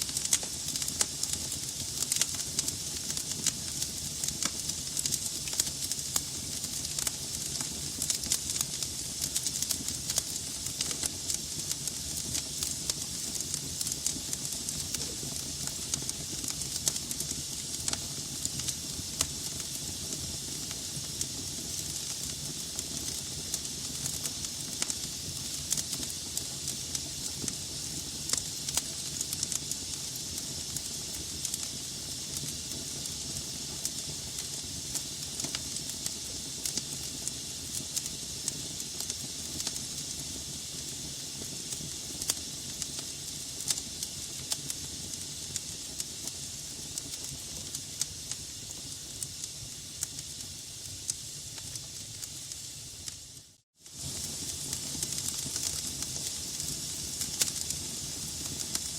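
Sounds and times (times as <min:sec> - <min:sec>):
logs burning with crackles: 0:00.0 - 0:58.9.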